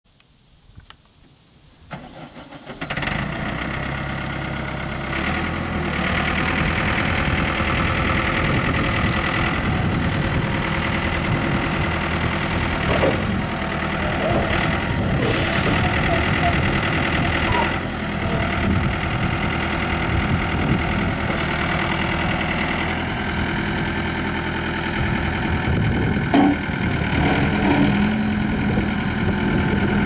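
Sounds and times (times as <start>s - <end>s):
loader engine starting and running: 1.9s - 30.0s.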